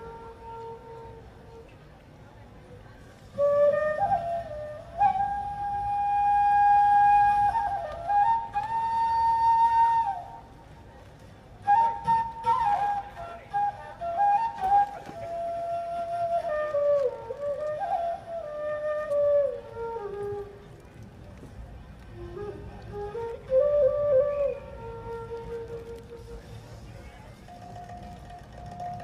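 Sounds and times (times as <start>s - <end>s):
solo flute melody: 0.0s - 29.0s.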